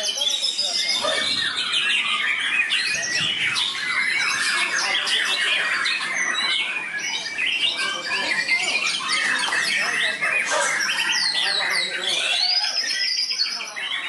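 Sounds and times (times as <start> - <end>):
birds singing whistled phrases: 0.0 - 14.0.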